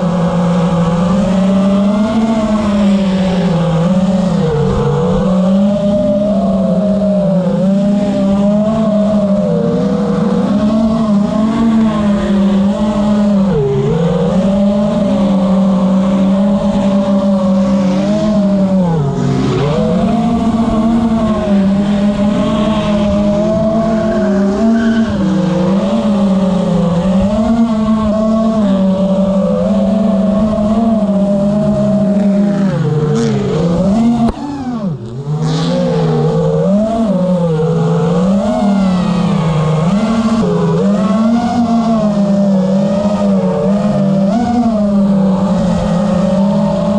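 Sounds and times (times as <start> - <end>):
faint engine notes: 0.0 - 46.9
quadcopter motors whining: 0.0 - 46.9.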